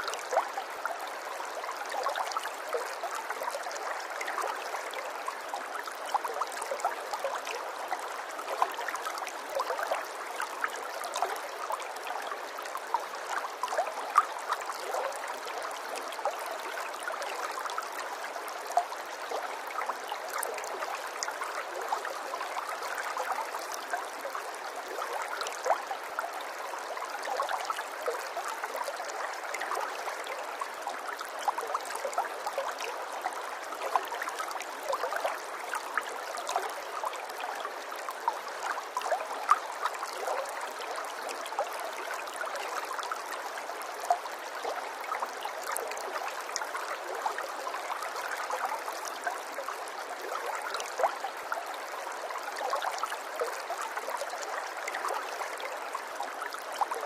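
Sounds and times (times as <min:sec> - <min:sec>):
water trickling and gurgling: 0:00.0 - 0:57.0.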